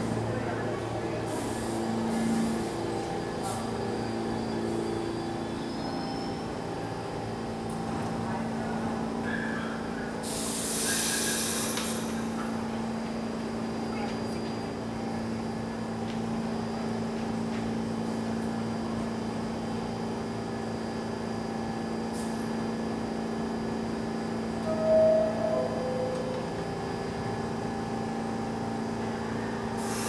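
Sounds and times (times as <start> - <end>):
subway train hum: 0.0 - 30.0.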